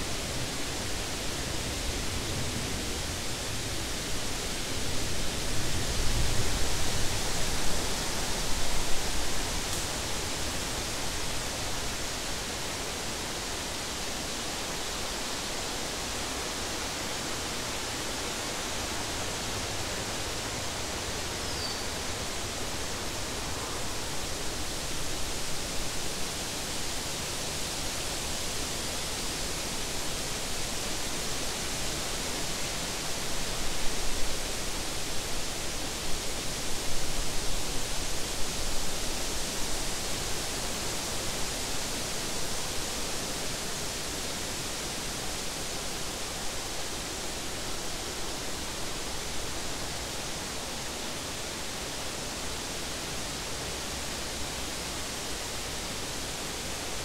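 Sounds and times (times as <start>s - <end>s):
wind through grass and leaves: 0.0s - 57.0s.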